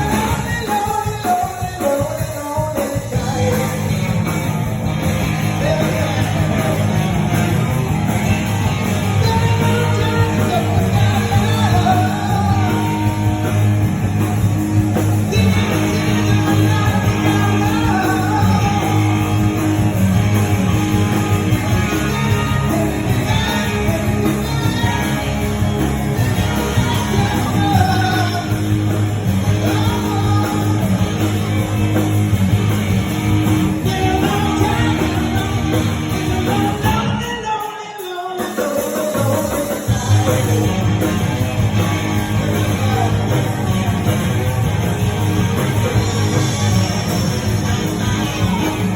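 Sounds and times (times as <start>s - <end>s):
person singing: 0.0s - 32.0s, 33.4s - 48.9s
bass guitar: 0.0s - 37.7s, 38.4s - 48.9s
drums: 0.0s - 48.9s
electric guitar: 0.0s - 48.9s.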